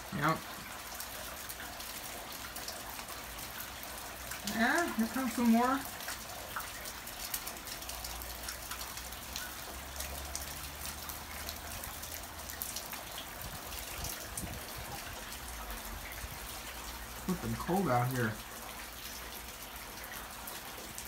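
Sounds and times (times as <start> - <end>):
rain hiss: 0.0 - 21.0.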